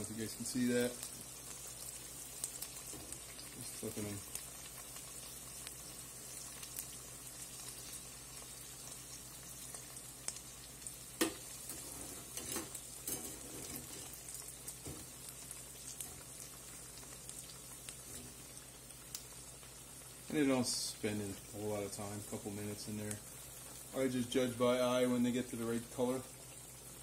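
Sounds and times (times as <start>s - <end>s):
onion rings sizzling in oil: 0.0s - 27.0s.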